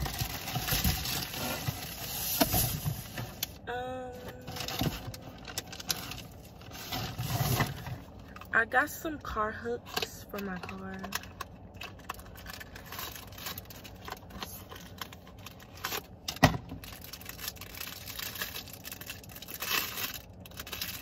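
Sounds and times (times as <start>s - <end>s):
packaging rustling and tearing: 0.0s - 3.6s, 4.5s - 8.3s, 10.9s - 21.0s.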